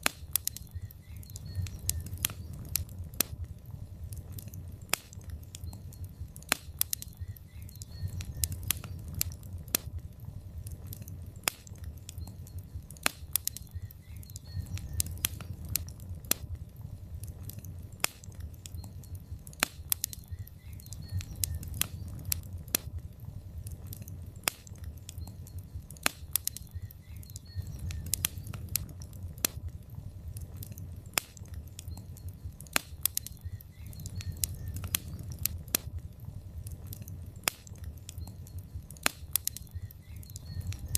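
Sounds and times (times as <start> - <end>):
logs crackling in a fireplace: 0.0 - 40.9
low rumble of fire: 0.0 - 40.9.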